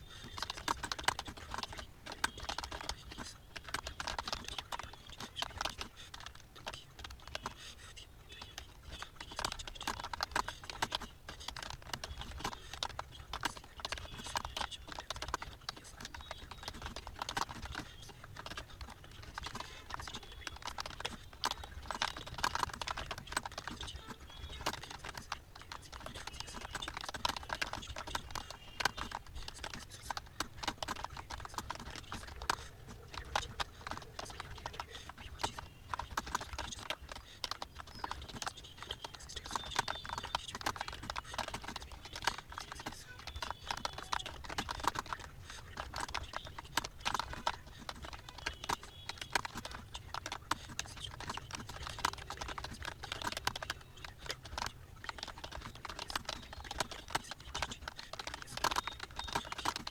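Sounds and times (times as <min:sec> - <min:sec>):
fast typing on computer keyboard: 0:00.0 - 0:59.9.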